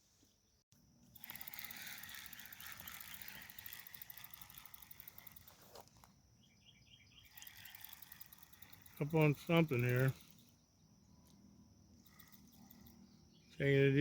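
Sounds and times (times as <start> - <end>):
chirping insects: 0.2 - 14.0
quick evenly spaced chirps: 1.0 - 5.6, 6.2 - 14.0.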